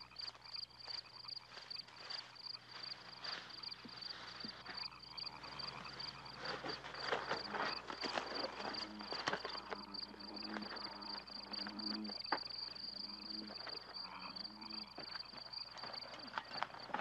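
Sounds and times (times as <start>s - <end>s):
insect trilling: 0.0s - 16.9s
frog croaks: 0.0s - 17.0s
people moving through undergrowth: 0.0s - 17.0s.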